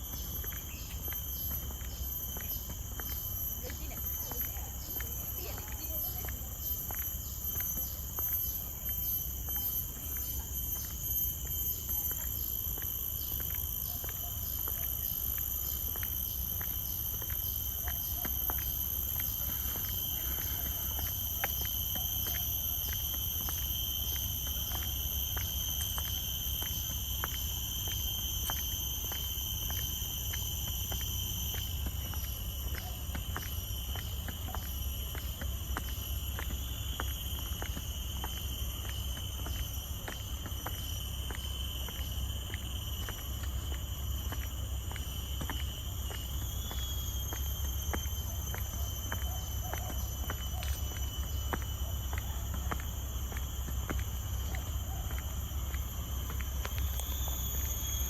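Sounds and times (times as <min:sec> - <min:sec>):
footsteps on a path: 0:00.0 - 0:58.0
insects droning: 0:00.0 - 0:58.0.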